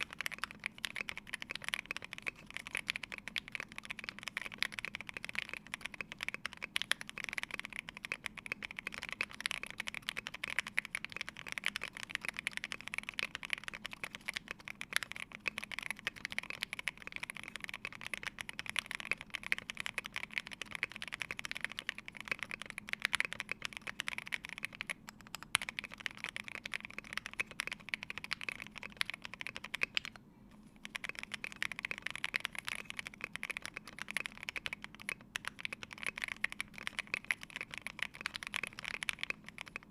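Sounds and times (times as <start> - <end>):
fast typing on mechanical keyboard: 0.0 - 30.2, 30.8 - 39.9.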